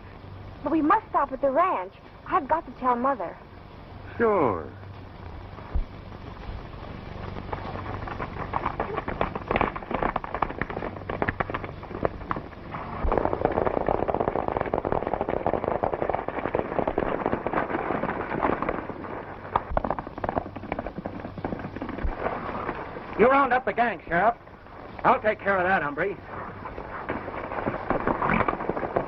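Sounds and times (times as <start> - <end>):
horses galloping on dirt: 5.0 - 29.0.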